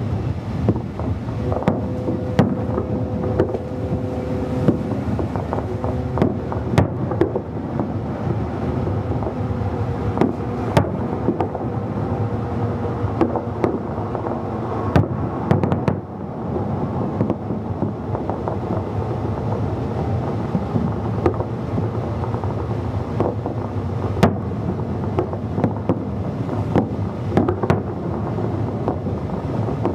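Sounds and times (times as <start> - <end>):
wind rumble on microphone: 0.0 - 29.9
fireworks cracking and banging: 0.6 - 29.9.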